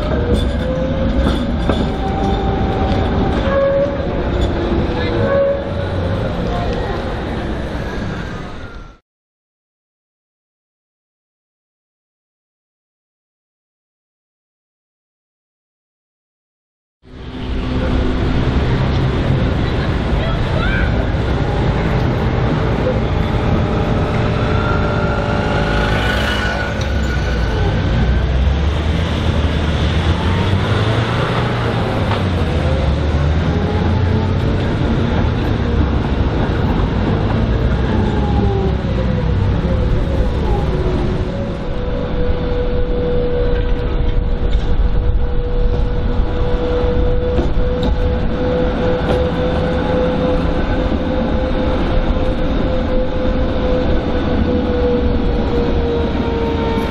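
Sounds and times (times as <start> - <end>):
tram motor whine: 0.0 - 9.0, 17.1 - 56.9
tram wheels rumbling on rails: 0.0 - 9.0, 17.0 - 56.9.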